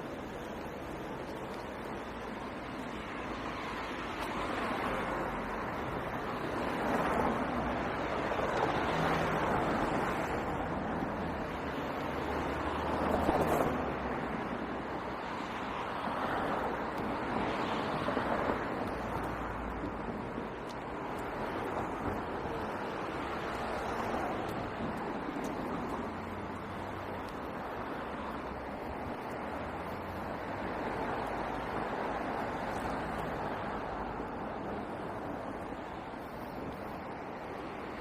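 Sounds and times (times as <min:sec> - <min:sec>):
road traffic passing: 0:00.0 - 0:38.0.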